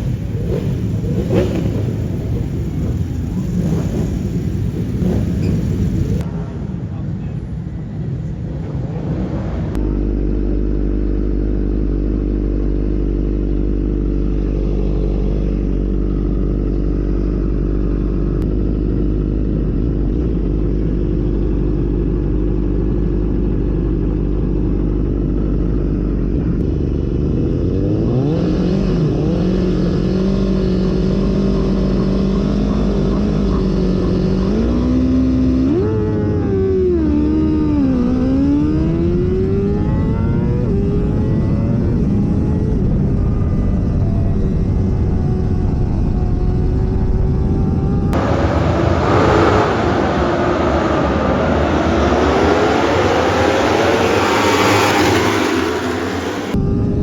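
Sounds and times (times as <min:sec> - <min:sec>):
motorcycle engine revving: 0:00.0 - 0:06.3, 0:09.3 - 0:56.6.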